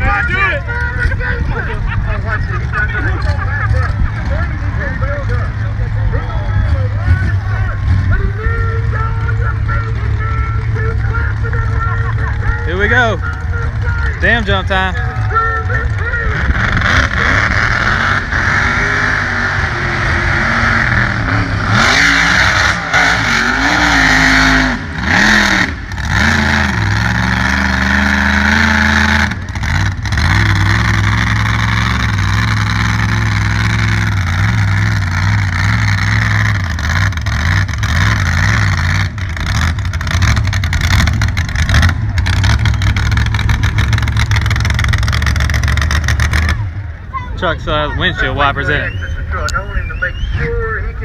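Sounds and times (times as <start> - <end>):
truck engine revving: 0.0 - 51.0.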